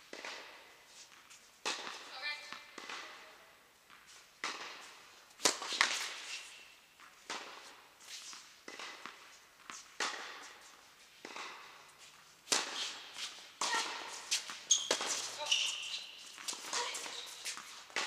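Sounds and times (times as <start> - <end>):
tennis ball hitting racket: 0.1 - 18.0.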